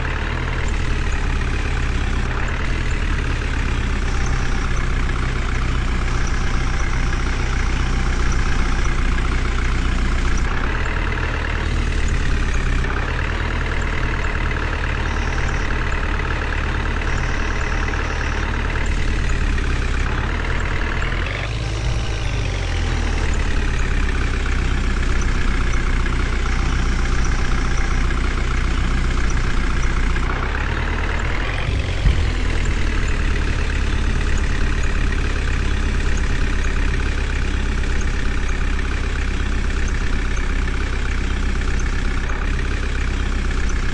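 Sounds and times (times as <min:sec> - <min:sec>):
heavy diesel engine revving: 0:00.0 - 0:43.9.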